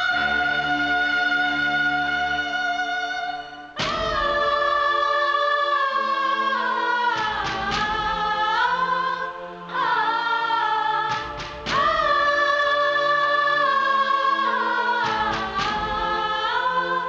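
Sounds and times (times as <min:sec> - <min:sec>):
wordless choir over low notes: 0:00.0 - 0:17.0.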